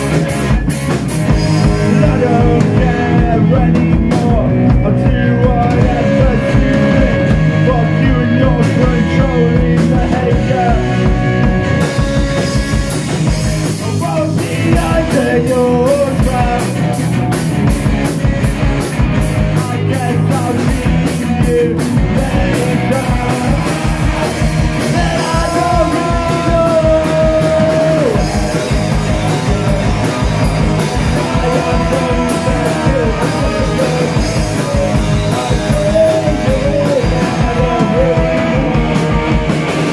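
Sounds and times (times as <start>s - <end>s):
punk rock band playing: 0.0s - 39.9s
person singing: 1.3s - 11.1s, 13.7s - 17.4s, 19.5s - 39.9s.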